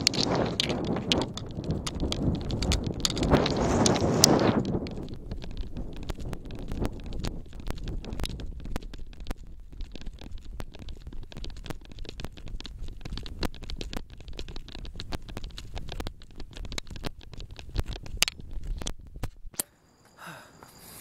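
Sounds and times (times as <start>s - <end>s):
running footfalls: 0.0s - 19.2s
camera jostling in hand: 0.0s - 19.5s
wind buffeting microphone: 0.0s - 19.5s.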